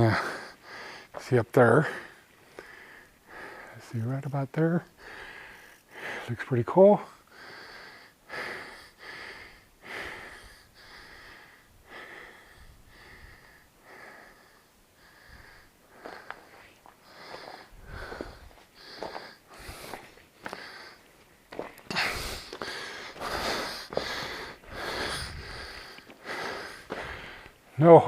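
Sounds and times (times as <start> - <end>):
person breathing heavily: 0.0 - 1.2, 1.8 - 3.9, 4.9 - 6.4, 7.2 - 27.7.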